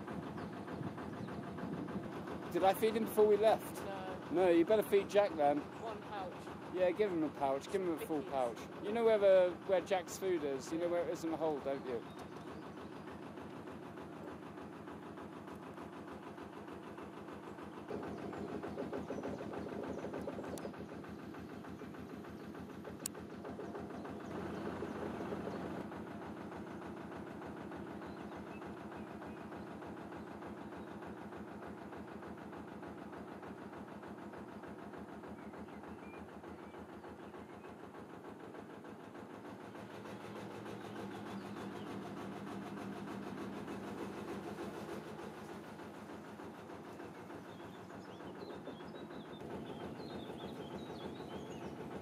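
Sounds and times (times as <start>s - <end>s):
boat engine chugging: 0.0s - 52.0s.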